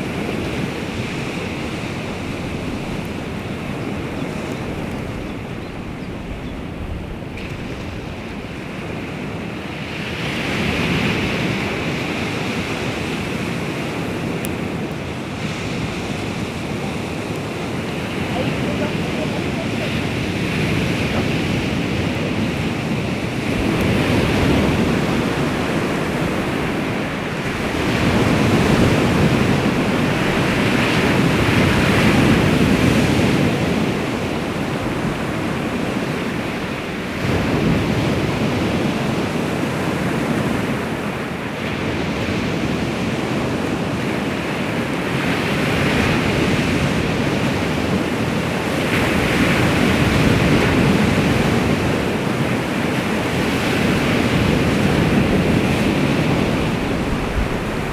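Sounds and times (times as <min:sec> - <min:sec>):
waves washing onto shore: 0:00.0 - 0:57.9
wind on microphone: 0:00.0 - 0:57.9.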